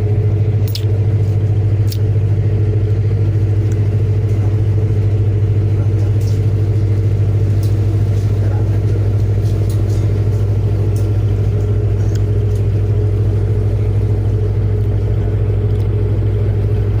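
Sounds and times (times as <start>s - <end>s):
ferry engine humming: 0.0s - 17.0s.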